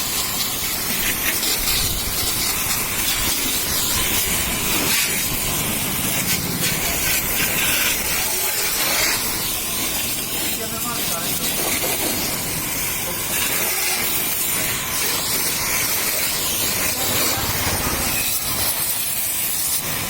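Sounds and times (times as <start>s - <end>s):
water jet spraying: 0.0s - 20.0s.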